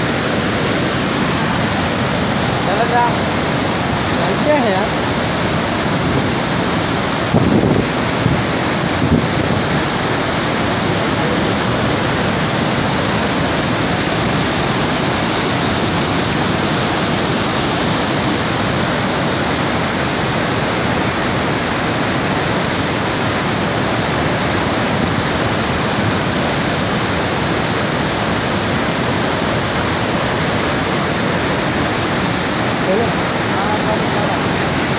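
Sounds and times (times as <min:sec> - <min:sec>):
waterfall rushing roar: 0:00.0 - 0:34.9.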